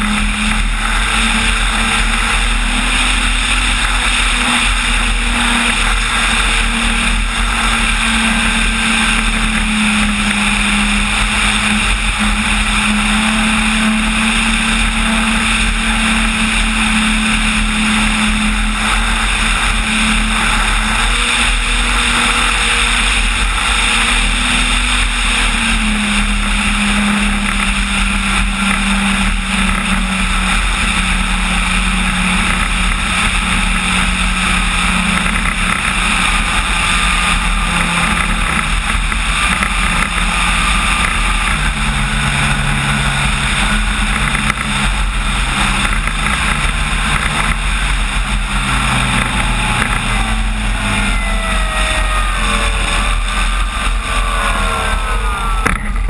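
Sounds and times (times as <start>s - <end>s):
electric motor and propeller whine: 0.0s - 56.0s
wind rushing over microphone: 0.0s - 56.0s.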